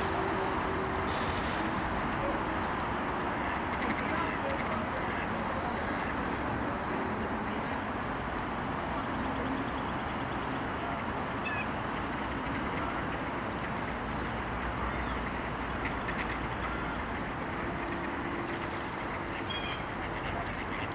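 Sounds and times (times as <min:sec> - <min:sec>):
steady background noise: 0:00.0 - 0:20.9.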